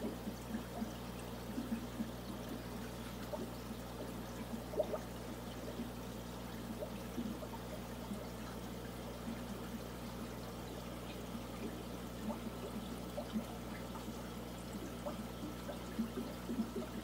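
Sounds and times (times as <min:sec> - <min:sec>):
aquarium filter water bubbling: 0:00.0 - 0:17.0.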